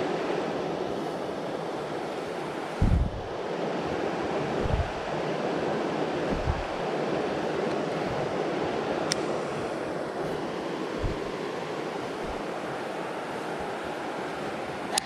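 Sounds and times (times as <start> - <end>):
creek water flowing: 0.0 - 15.0.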